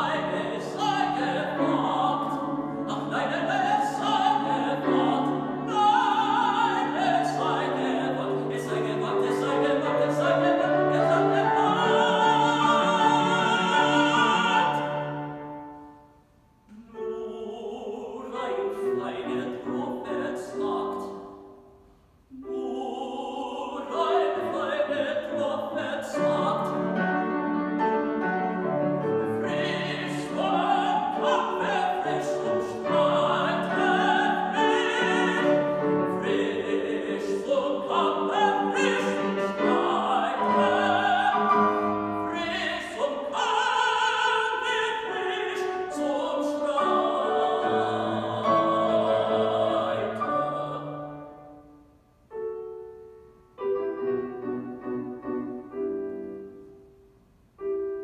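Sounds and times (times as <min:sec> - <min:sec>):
tenor singing opera: 0:00.0 - 0:21.6, 0:22.3 - 0:51.8
grand piano: 0:00.0 - 0:58.0.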